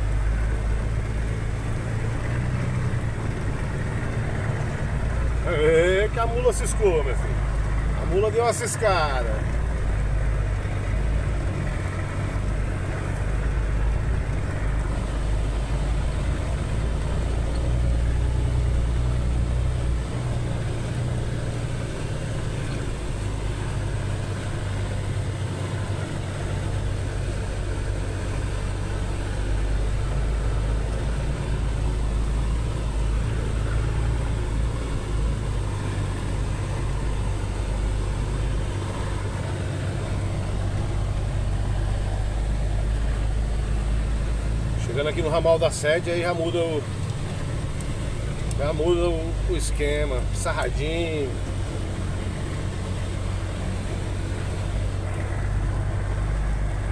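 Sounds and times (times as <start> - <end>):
road noise on wet dirt: 0.0 - 56.9
vehicle engine rumbling: 0.0 - 56.9.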